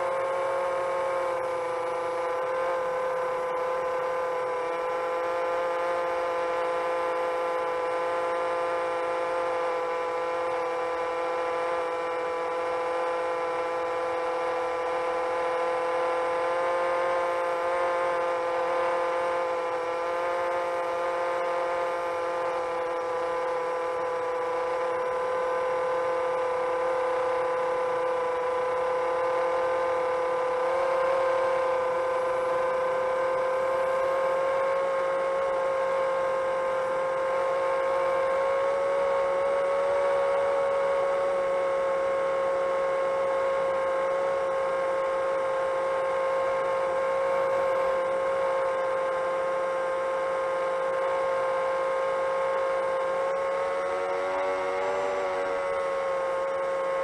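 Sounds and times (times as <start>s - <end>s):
drone motors whining: 0.0s - 7.9s, 17.4s - 57.0s.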